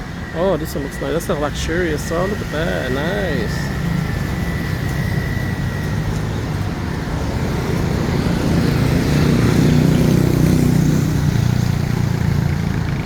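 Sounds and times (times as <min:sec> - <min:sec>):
road traffic passing: 0:00.0 - 0:13.0
vehicle engine: 0:00.0 - 0:13.0.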